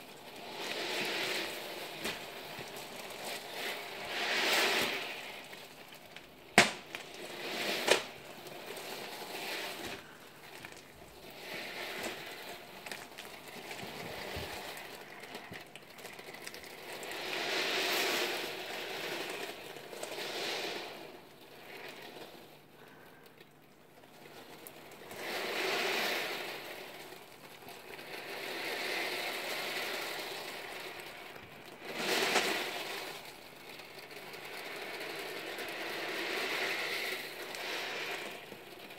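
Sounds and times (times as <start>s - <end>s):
steel ball bearings clattering: 0.0s - 38.9s.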